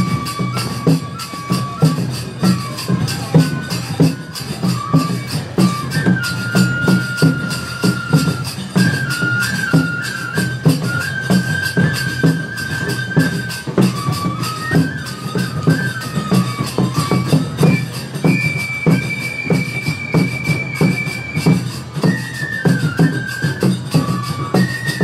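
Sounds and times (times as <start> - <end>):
bamboo flute melody: 0.0 - 25.0
drum beat: 0.0 - 25.0.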